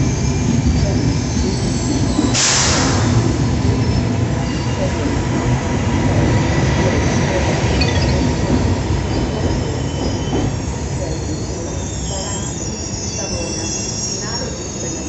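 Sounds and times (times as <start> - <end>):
train wheels squealing: 0.0 - 5.0, 7.0 - 15.0
train rumbling: 0.0 - 15.0.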